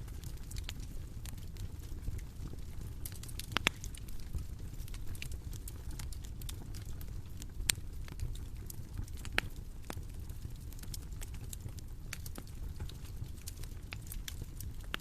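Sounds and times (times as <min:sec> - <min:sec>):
bonfire crackling: 0:00.0 - 0:15.0.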